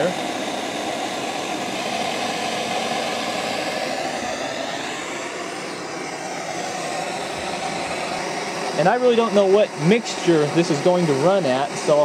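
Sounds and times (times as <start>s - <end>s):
propane torch flame hissing: 0.0s - 12.0s.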